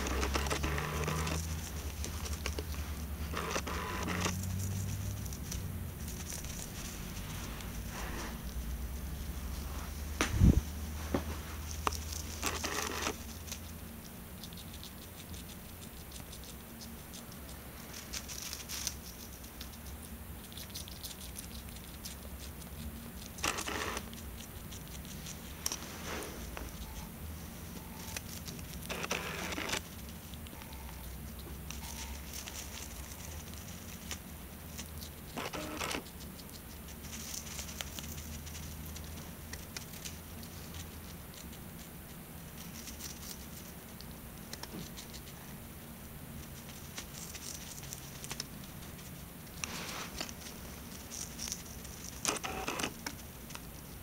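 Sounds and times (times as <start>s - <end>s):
hamster crunching nibbles: 0.0s - 54.0s.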